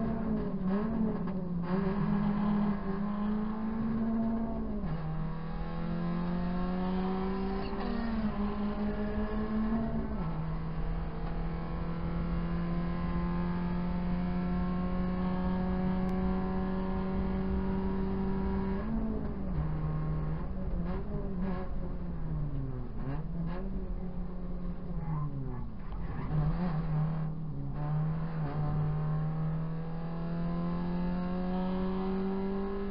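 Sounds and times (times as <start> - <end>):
race car engine revving: 0.0 - 32.9.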